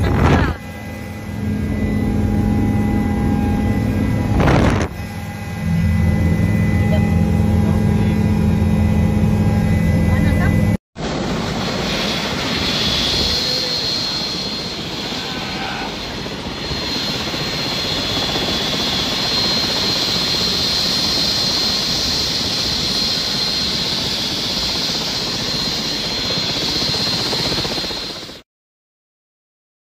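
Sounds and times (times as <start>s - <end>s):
high-pitched whine: 0.0s - 28.3s
helicopter engine and rotor: 0.0s - 28.4s.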